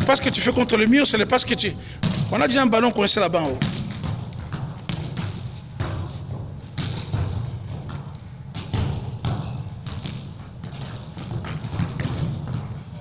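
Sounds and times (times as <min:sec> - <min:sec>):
balls thudding in echoing hall: 0:00.0 - 0:13.0.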